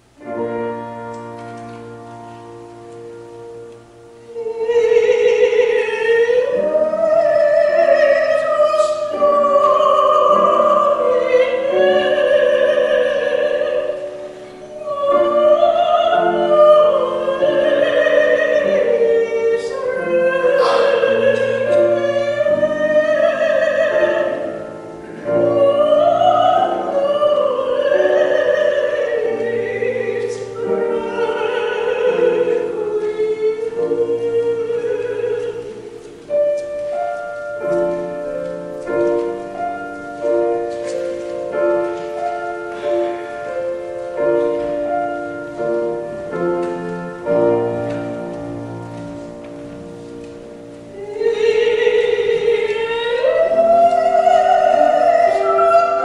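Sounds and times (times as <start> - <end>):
sustained keyboard accompaniment: 0.0 - 56.0
woman singing with vibrato: 4.0 - 36.5, 37.2 - 56.0.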